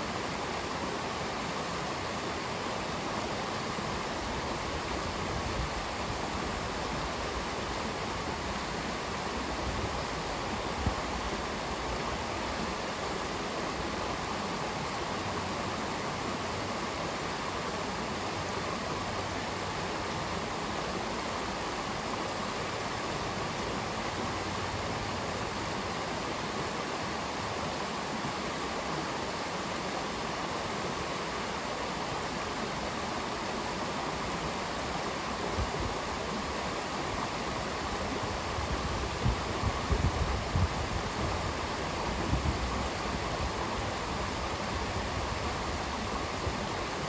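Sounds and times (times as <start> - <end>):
stream rushing over stones: 0.0 - 47.0.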